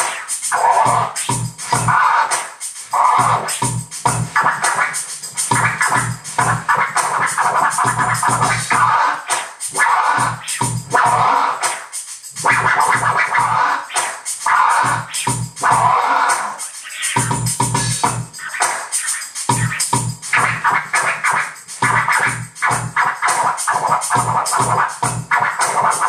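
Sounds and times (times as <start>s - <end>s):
drum beat: 0.0s - 26.0s
vinyl record scratching: 0.0s - 26.0s.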